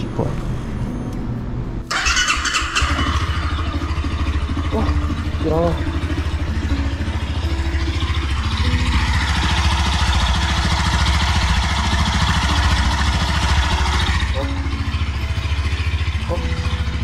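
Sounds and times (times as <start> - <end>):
mechanical engine noise: 0.0 - 17.0
motorcycle engine idling: 1.9 - 17.0.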